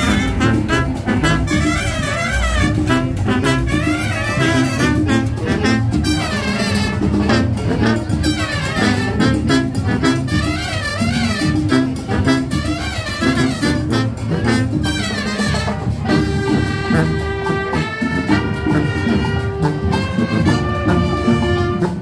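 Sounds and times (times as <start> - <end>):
drums keeping a steady beat: 0.0 - 22.0
marching band brass playing: 0.0 - 22.0.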